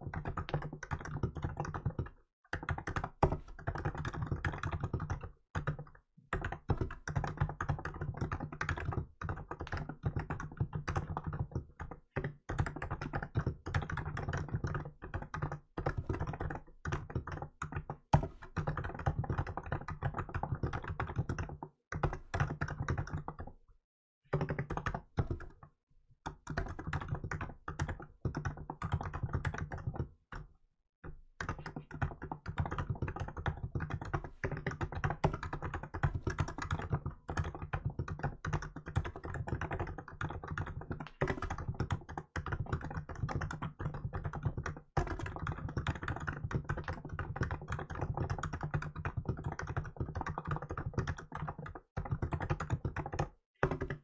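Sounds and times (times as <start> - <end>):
typing on a keyboard: 0.0 - 23.6, 24.3 - 54.0.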